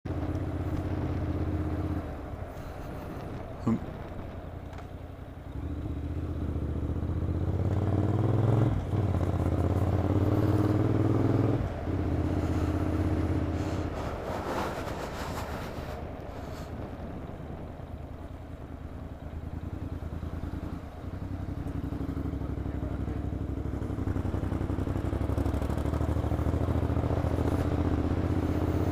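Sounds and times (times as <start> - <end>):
motorcycle engine accelerating: 0.1 - 28.9.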